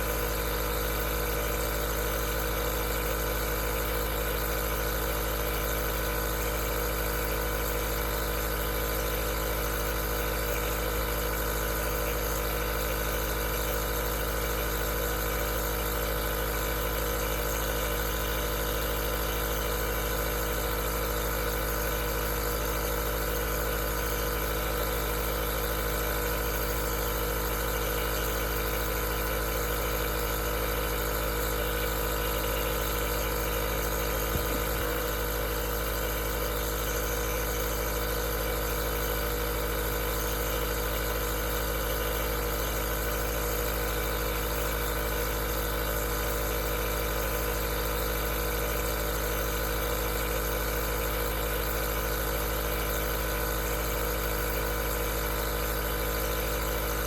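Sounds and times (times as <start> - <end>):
nebulizer motor humming with hiss: 0.0 - 57.0.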